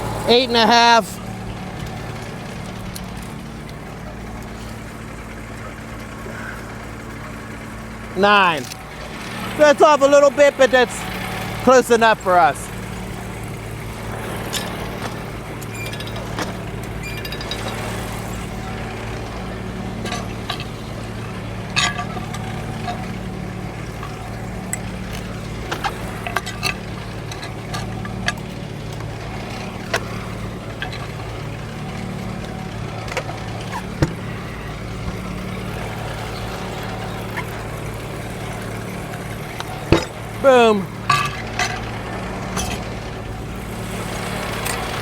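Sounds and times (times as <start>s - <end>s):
sawmill engine running: 0.0s - 45.0s
sharp metallic clicks and clanks: 7.7s - 45.0s.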